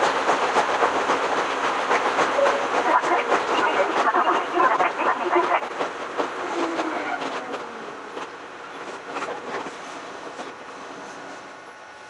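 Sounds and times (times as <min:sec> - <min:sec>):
train wheels clattering on rails: 0:00.0 - 0:11.8.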